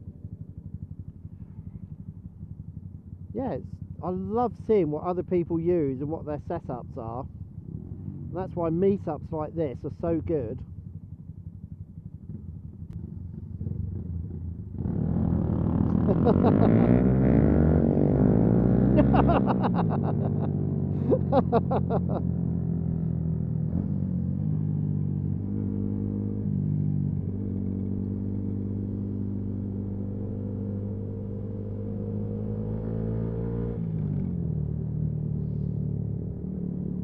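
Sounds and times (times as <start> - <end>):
motorcycle engine with gear changes: 0.0 - 4.7, 10.5 - 37.0.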